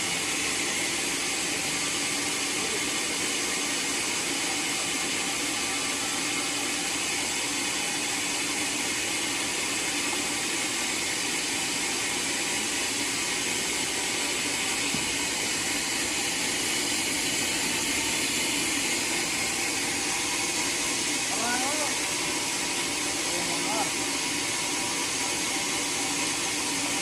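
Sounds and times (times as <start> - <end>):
sawmill running: 0.0 - 27.0.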